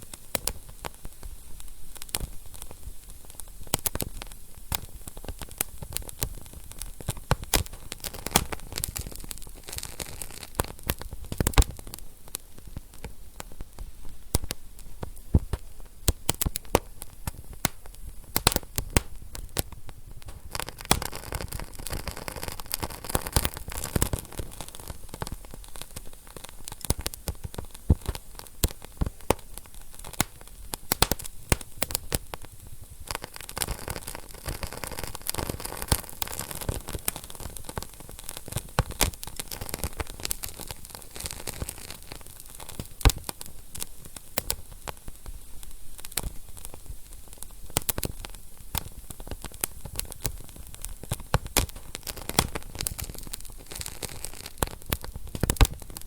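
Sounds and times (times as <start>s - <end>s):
flames hissing: 0.0s - 56.0s
wood fire crackling and popping: 0.0s - 56.0s.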